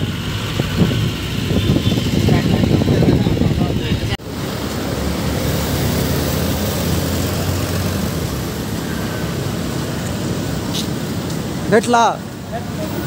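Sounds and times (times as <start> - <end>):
bus engine droning: 0.0 - 13.0
road traffic: 0.0 - 13.0.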